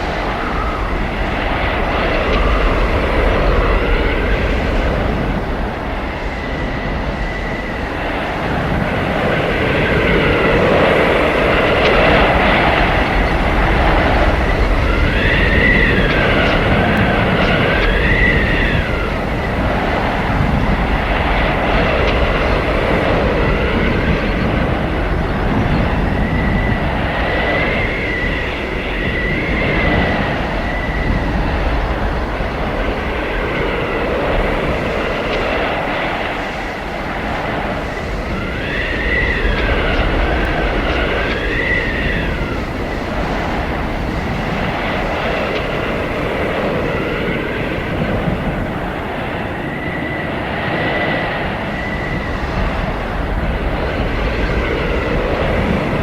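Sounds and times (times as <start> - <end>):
blizzard wind howling: 0.0 - 56.0.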